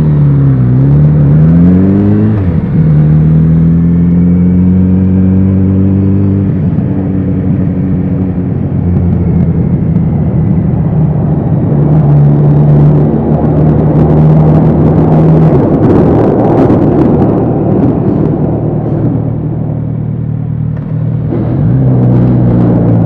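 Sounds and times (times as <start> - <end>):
motorcycle engine and exhaust: 0.0 - 23.0.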